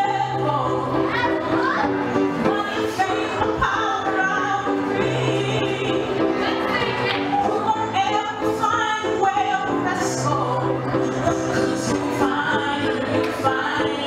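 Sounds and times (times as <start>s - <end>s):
piano chords: 0.0s - 14.0s
woman singing: 0.0s - 14.0s.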